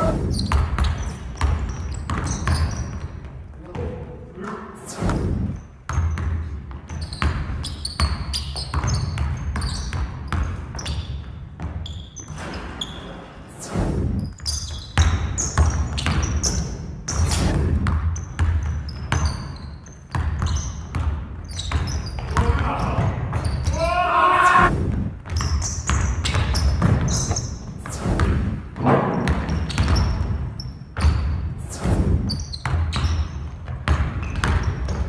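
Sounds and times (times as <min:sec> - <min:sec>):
sneaker squeaks: 0:00.0 - 0:03.6, 0:04.4 - 0:13.5, 0:14.1 - 0:24.0, 0:25.3 - 0:28.2, 0:28.8 - 0:35.0
basketball bouncing on wooden floor: 0:00.3 - 0:04.1, 0:05.8 - 0:13.0, 0:14.2 - 0:23.8, 0:25.0 - 0:31.6, 0:32.2 - 0:35.0.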